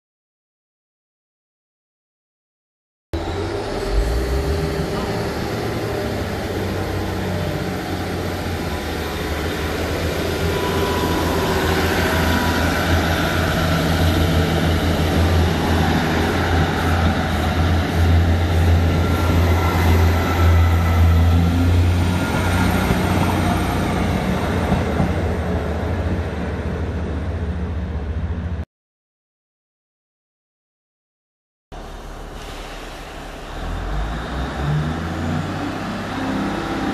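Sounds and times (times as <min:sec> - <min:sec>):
diesel train engine drone: 0:03.2 - 0:28.6, 0:31.7 - 0:36.9.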